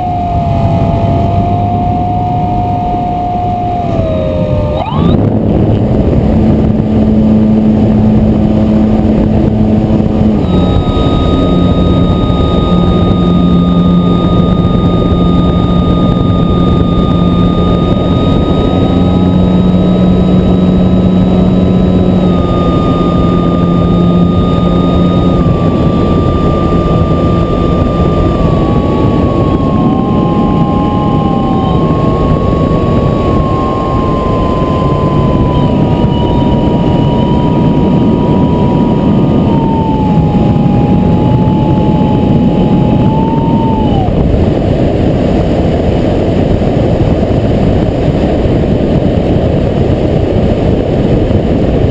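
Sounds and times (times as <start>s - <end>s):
drone motors whining: 0.0s - 46.5s
propeller rushing noise: 0.0s - 51.9s.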